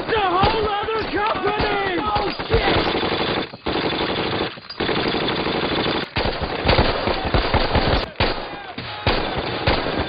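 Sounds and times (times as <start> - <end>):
machine-gun fire: 0.0 - 10.0.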